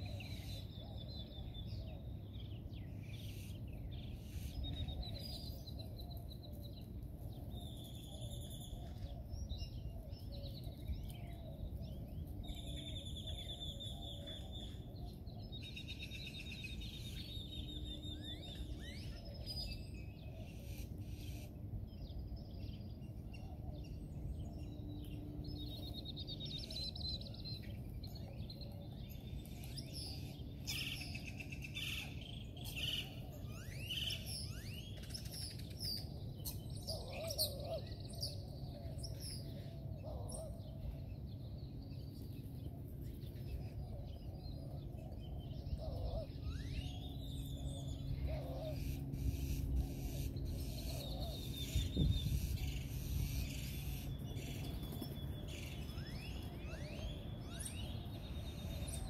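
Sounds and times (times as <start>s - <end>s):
birds chirping and whistling: 0.0s - 59.0s.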